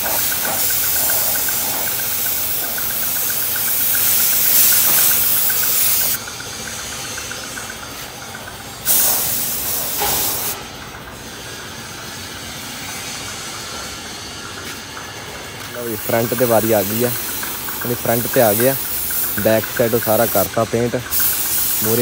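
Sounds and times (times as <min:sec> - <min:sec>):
paint spray gun hissing: 0:00.0 - 0:10.6, 0:14.1 - 0:22.0.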